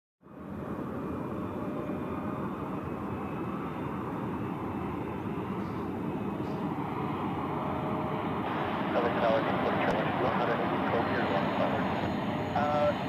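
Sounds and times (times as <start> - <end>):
jet engines running: 0.2 - 13.0.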